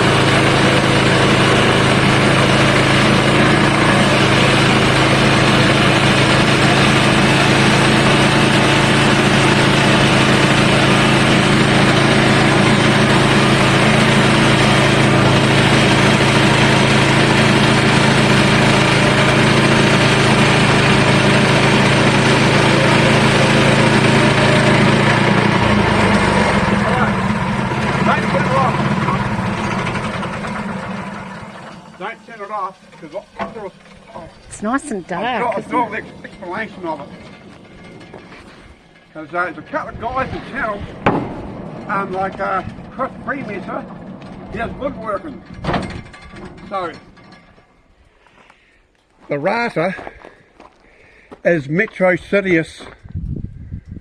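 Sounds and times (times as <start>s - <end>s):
sawmill petrol engine running: 0.0s - 53.1s.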